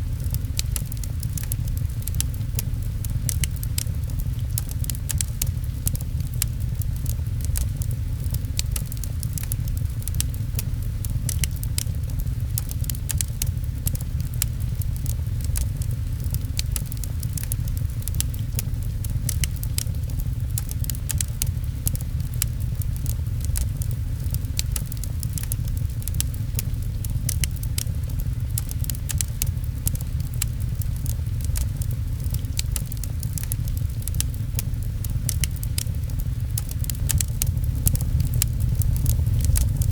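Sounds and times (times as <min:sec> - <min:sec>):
fireplace crackling and popping: 0:00.0 - 0:39.9
rain pattering: 0:00.0 - 0:39.9.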